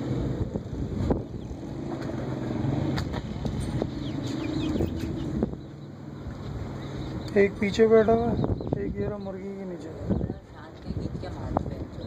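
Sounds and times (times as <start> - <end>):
chick peeping: 1.2 - 2.2, 3.1 - 12.0.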